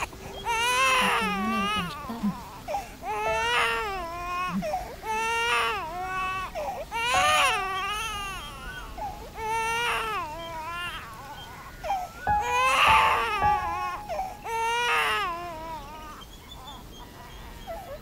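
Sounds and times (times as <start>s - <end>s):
baby crying: 0.0s - 18.0s.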